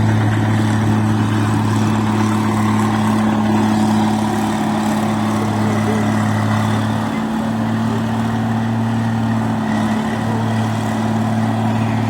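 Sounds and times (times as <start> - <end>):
machine engine humming: 0.0 - 12.0.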